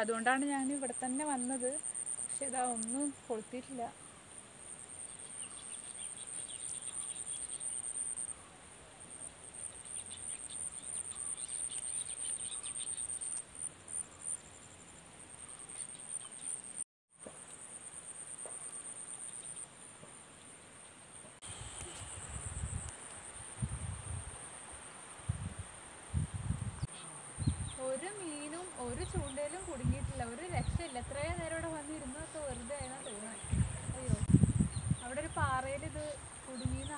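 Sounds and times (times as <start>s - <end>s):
faint insect chirps: 0.0s - 36.9s
insects trilling: 0.0s - 36.9s.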